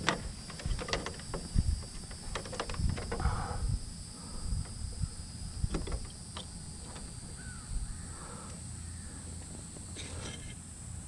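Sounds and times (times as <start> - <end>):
wind rumble on microphone: 0.0 - 9.1.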